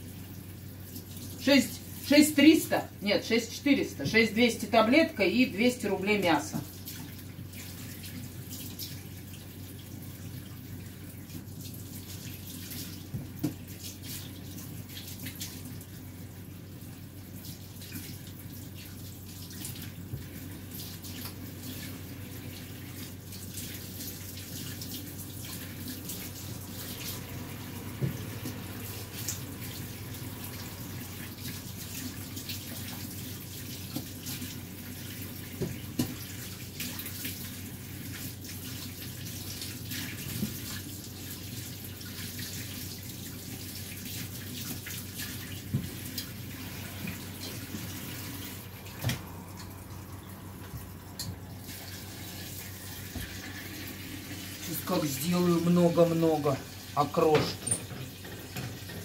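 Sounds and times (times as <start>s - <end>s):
tap water running into sink: 6.5s - 59.0s.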